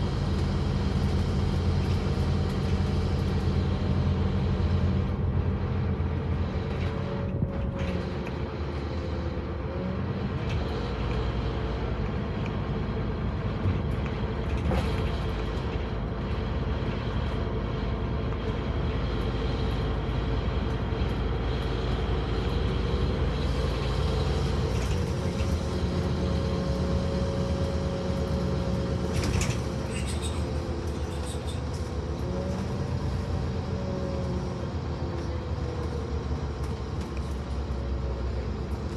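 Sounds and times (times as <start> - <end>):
bus diesel engine droning: 0.0 - 38.9.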